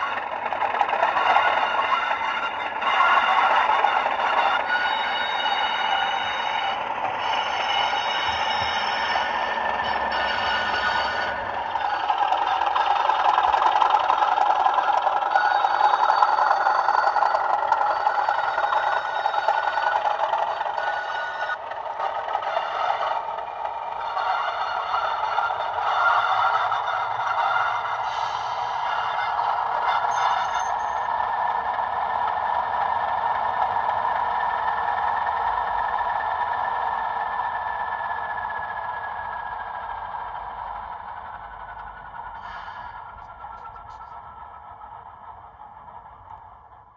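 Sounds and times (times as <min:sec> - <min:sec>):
diesel engine through small speaker: 0:00.0 - 0:46.9
model train wheels clattering: 0:00.0 - 0:46.9.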